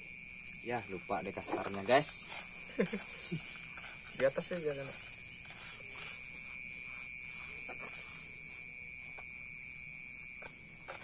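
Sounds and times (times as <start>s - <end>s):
night insects chirring: 0.0s - 11.0s
hand scratching potting mix: 0.4s - 11.0s.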